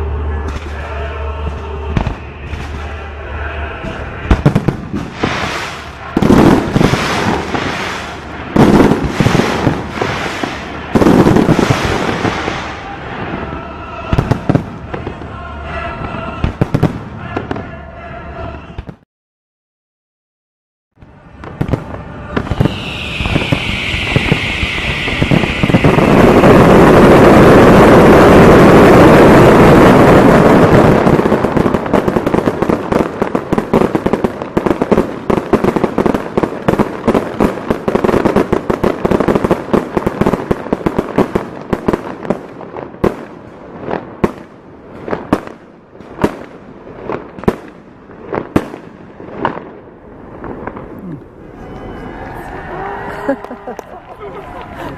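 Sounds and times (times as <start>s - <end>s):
fireworks bursting: 0.0s - 17.8s, 21.0s - 52.6s
fireworks crackling and bangs: 0.0s - 17.8s, 18.4s - 19.0s, 21.0s - 51.6s.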